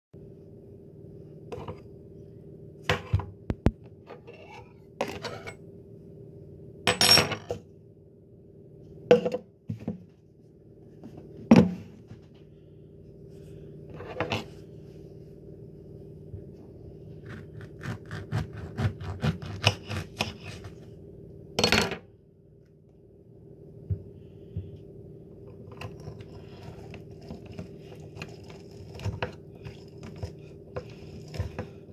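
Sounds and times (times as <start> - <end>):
low hum: 0.2 - 31.9.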